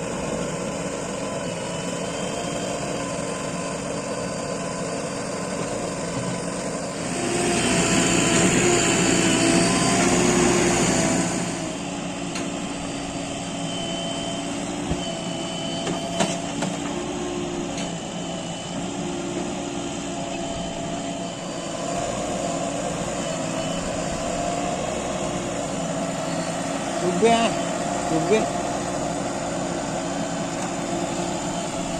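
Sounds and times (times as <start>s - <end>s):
diesel engine revving: 5.4s - 15.8s, 16.7s - 31.9s.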